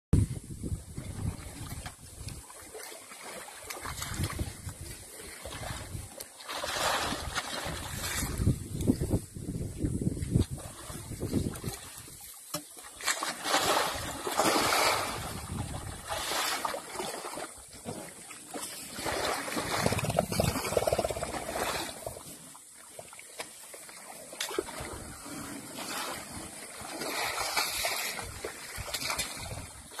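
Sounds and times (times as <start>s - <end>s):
mud splashing and squelching: 0.9s - 8.9s, 10.1s - 30.0s.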